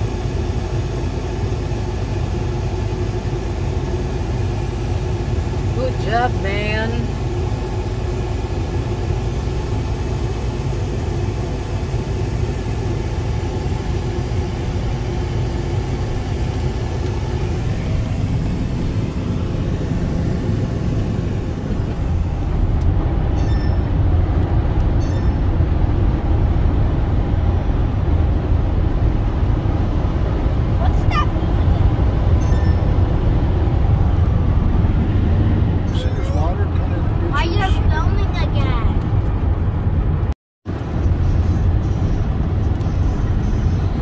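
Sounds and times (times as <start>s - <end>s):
car engine hum: 0.0s - 44.0s
road and wind noise: 0.0s - 44.0s.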